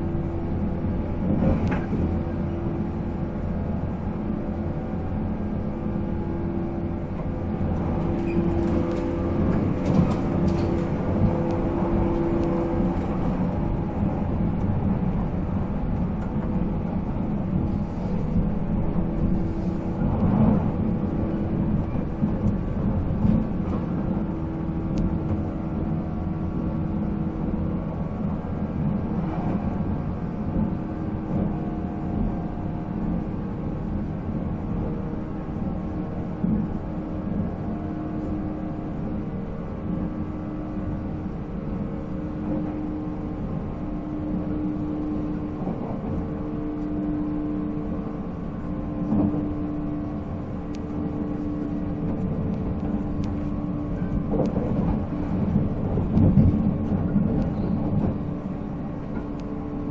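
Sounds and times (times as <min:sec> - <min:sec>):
wheel and rail rumble: 0:00.0 - 0:59.9.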